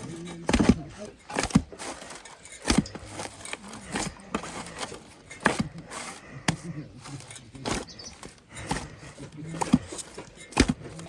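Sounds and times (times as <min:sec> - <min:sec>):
sharp knocks and scrapes: 0:00.0 - 0:11.0.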